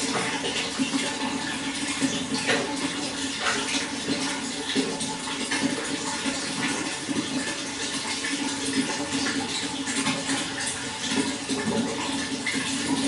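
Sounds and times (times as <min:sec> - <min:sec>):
running water flowing: 0:00.0 - 0:13.0.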